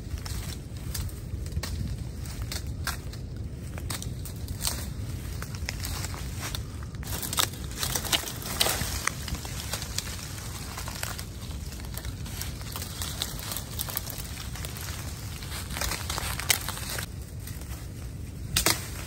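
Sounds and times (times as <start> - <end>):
low steady rumble: 0.0 - 19.0
twigs and leaves crackling: 0.0 - 19.0.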